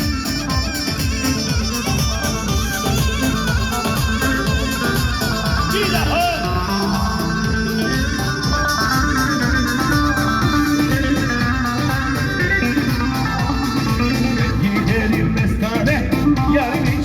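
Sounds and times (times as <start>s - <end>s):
plucked string instrument melody: 0.0s - 15.5s
folk band playing: 0.0s - 17.0s.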